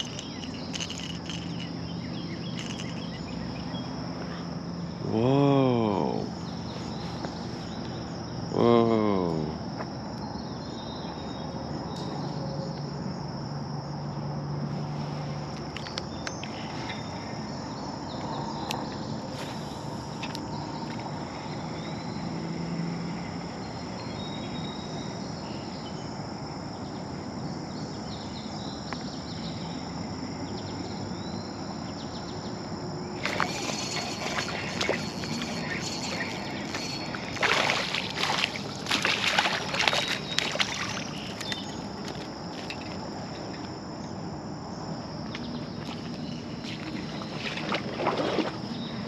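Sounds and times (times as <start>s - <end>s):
insects trilling: 0.0s - 49.0s.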